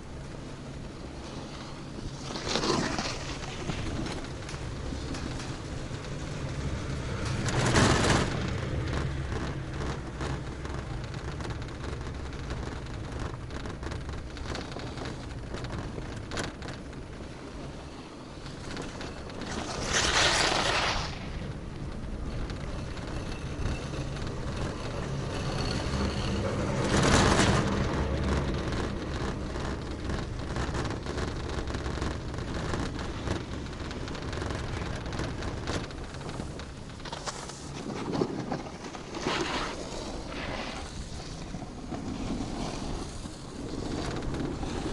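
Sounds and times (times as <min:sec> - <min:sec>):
chairlift haul rope rumble: 0:00.0 - 0:44.9
clattering over sheave wheels: 0:00.0 - 0:44.9.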